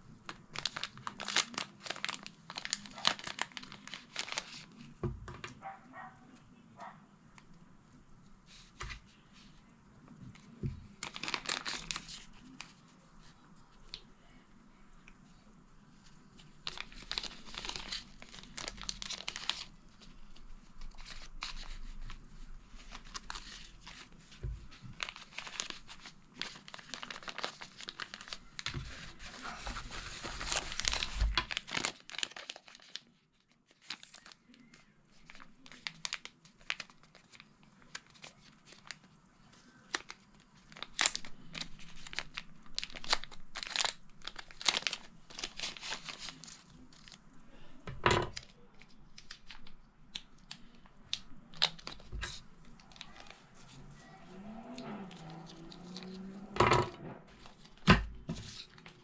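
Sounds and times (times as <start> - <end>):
packaging crinkling and tearing: 0.2 - 5.0, 10.3 - 14.0, 16.0 - 47.6, 48.3 - 56.6.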